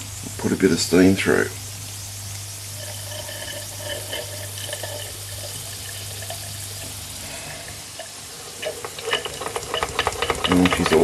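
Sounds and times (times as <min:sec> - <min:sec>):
steam hissing and gurgling: 0:00.0 - 0:11.0.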